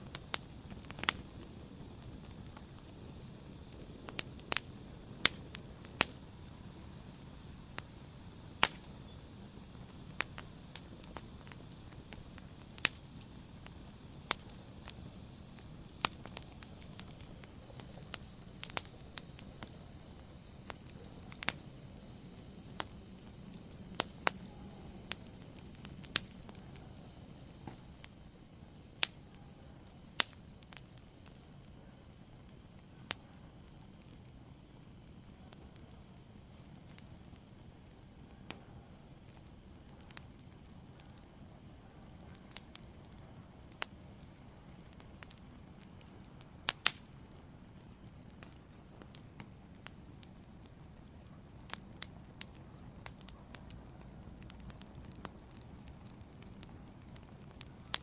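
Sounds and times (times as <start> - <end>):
fire crackling and popping: 0.0 - 58.0
low rush of flames: 0.0 - 58.0.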